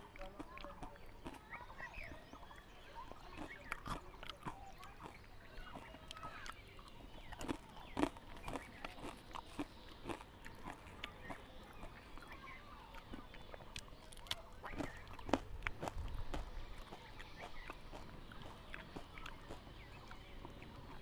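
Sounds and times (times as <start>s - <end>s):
crisp fried snacks crunching: 0.1s - 21.0s.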